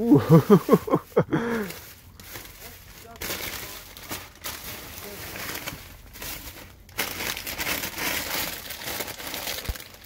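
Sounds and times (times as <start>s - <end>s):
plastic bags crinkling and rustling: 0.1s - 10.0s.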